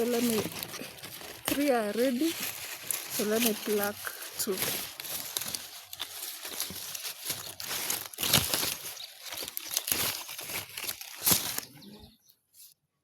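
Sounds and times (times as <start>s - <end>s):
twigs snapping: 0.0s - 11.8s
leaves and twigs rustling: 0.0s - 12.7s.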